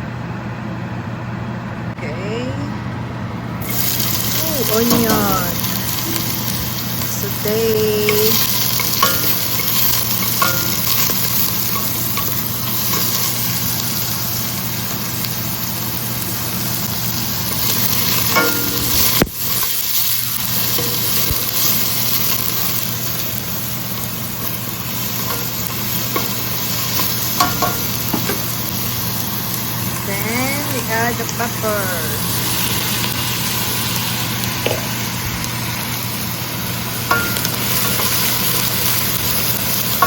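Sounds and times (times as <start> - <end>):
onion sizzling in a pan: 3.6 - 40.0.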